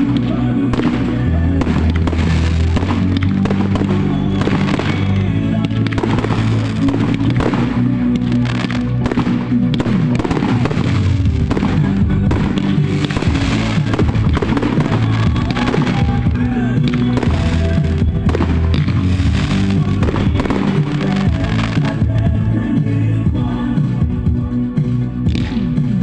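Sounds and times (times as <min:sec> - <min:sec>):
fireworks popping and banging: 0:00.0 - 0:22.5
loud music playing: 0:00.0 - 0:26.0.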